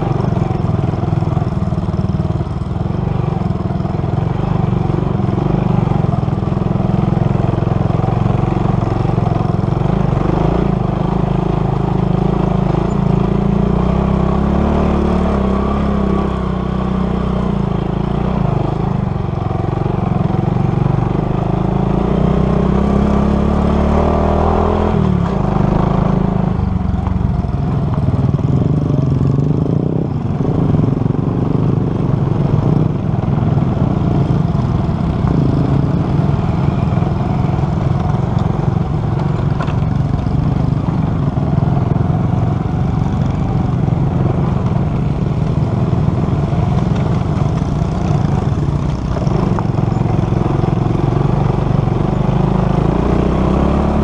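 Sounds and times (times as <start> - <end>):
motorcycle engine running under load: 0.0 - 54.0.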